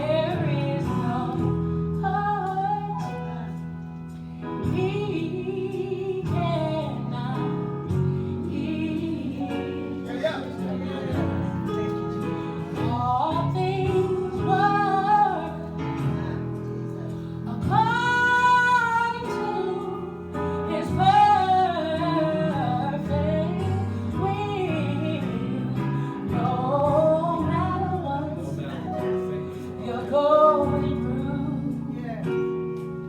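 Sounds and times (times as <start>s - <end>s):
woman singing gospel song: 0.0s - 3.8s, 4.6s - 11.6s, 12.2s - 16.4s, 17.2s - 32.2s
instrumental backing: 0.0s - 33.0s.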